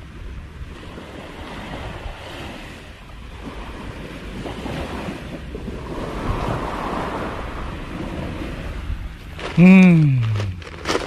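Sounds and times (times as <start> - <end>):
surf washing on stony shore: 0.0 - 11.0
wind buffeting microphone: 0.0 - 11.0.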